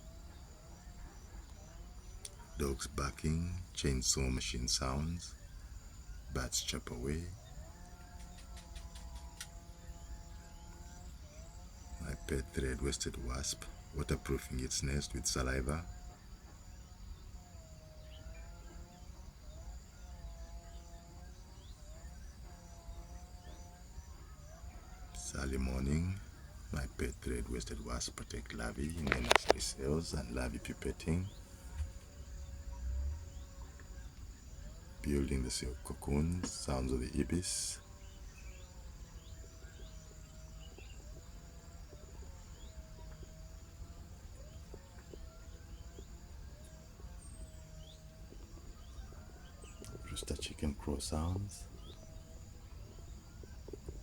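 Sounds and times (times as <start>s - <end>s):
drawn-out bird calls: 0.0s - 54.0s
high-pitched insect drone: 0.0s - 54.0s.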